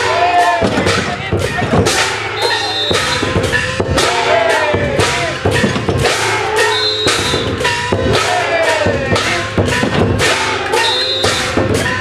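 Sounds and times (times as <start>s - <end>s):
men shouting: 0.0s - 12.0s
rhythmic drumbeats: 0.0s - 12.0s.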